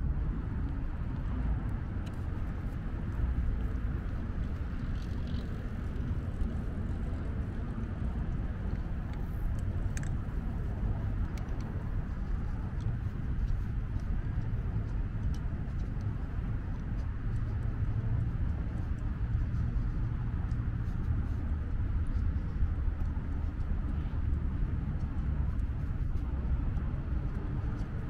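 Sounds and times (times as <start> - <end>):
low city rumble: 0.0 - 28.0.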